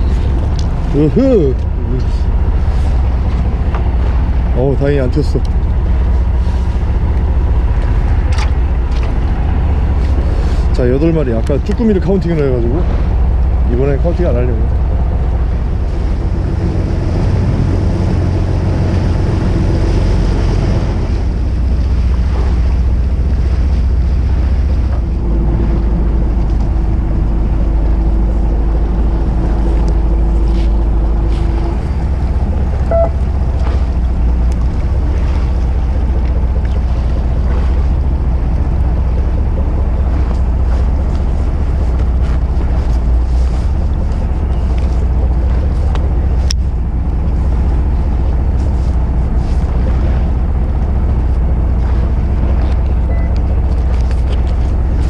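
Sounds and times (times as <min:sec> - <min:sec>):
boat engine droning: 0:00.0 - 0:55.0
water rushing past hull: 0:00.0 - 0:55.0
wind buffeting microphone: 0:00.0 - 0:55.0.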